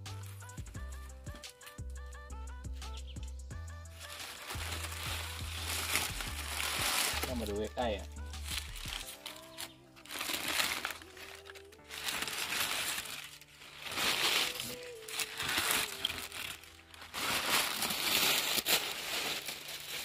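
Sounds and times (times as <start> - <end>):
background music: 0.0 - 20.0
paper crinkling and rustling: 4.0 - 20.0.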